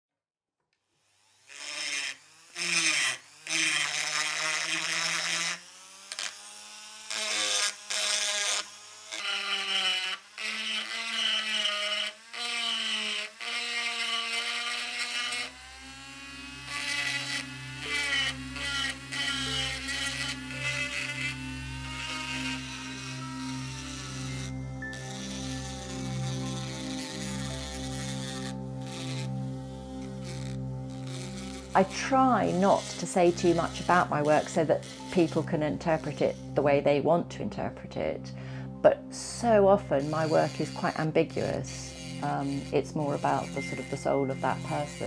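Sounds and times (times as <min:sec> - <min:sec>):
rotary carving tool whirring: 0:01.0 - 0:38.1, 0:39.2 - 0:45.0.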